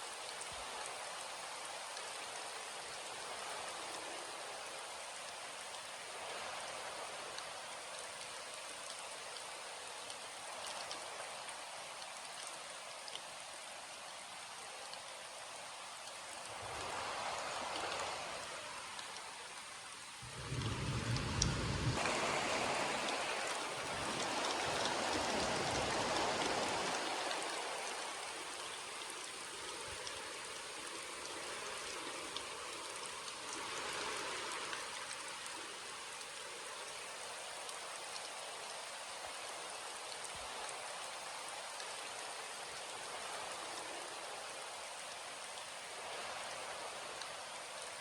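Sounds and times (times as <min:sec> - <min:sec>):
rain pattering on surfaces: 0:00.0 - 0:48.0.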